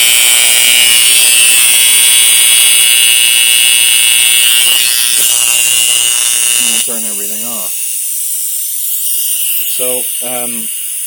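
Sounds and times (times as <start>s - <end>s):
high-pitched buzzing hiss: 0.0s - 11.0s.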